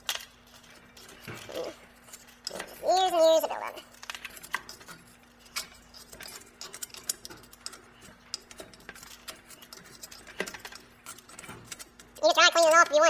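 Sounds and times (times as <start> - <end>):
metal tools clicking and scraping: 0.0 - 13.0.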